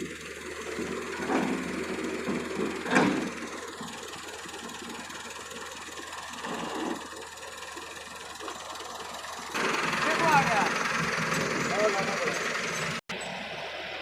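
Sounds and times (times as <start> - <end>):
heavy machinery engine running: 0.0 - 13.9.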